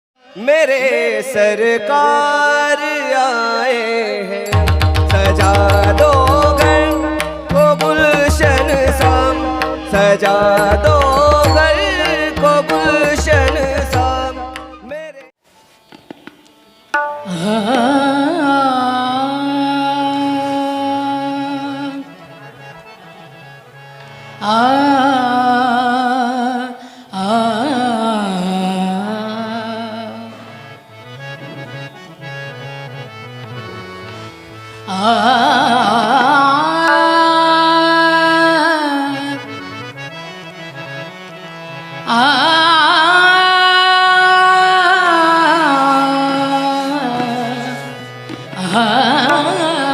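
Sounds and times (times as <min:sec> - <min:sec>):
instrumental devotional music: 0:00.2 - 0:49.9.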